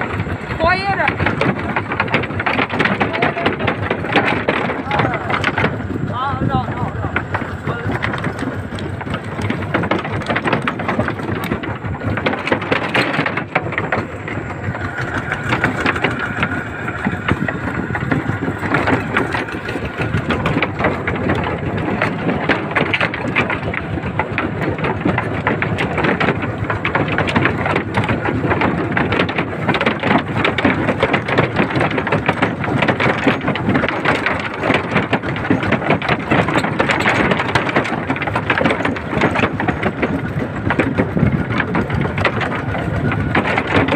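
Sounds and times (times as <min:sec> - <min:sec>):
tractor engine clattering: 0:00.0 - 0:43.9.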